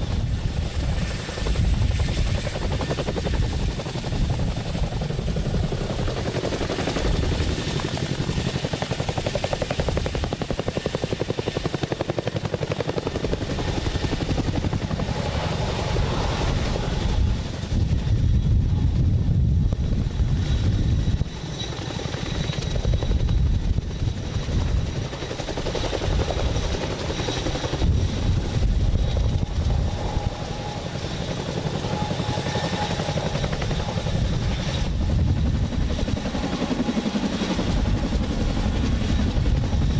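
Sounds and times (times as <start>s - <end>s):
helicopter rotor beat: 0.0s - 39.9s
turbine whine: 0.0s - 39.9s.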